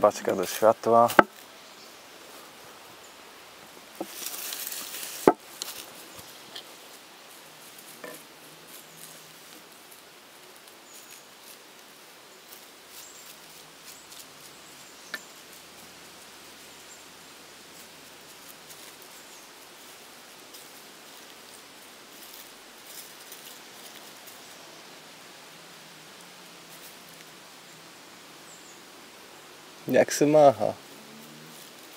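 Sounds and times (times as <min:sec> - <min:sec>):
faint rustles: 0:00.0 - 0:31.9.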